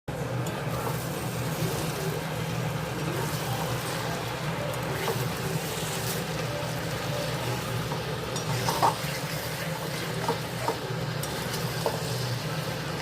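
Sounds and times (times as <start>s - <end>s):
chicken sizzling in a pan: 0.1s - 13.0s.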